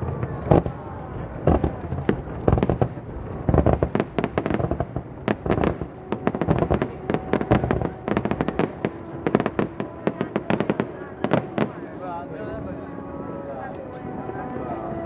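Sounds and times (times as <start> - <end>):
fireworks bangs and crackles: 0.0 - 12.1.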